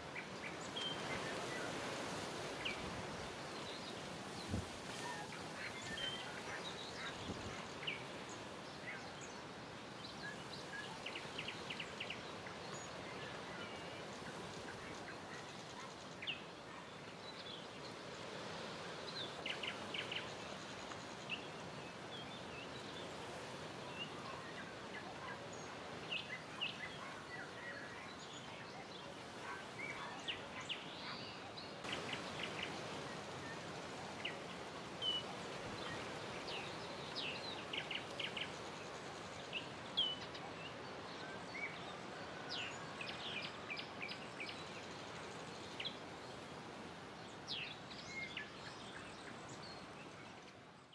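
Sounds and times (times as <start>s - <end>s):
songbirds chirping: 0.0s - 50.9s
wind through foliage: 0.0s - 50.9s.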